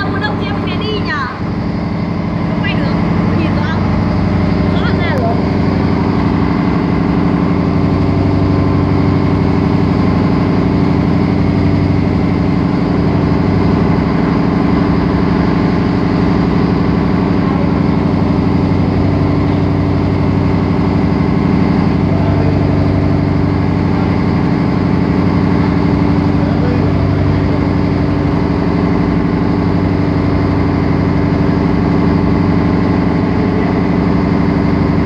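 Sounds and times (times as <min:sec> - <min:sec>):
boat engine droning: 0:00.0 - 0:35.0
water rushing along hull: 0:00.0 - 0:35.0.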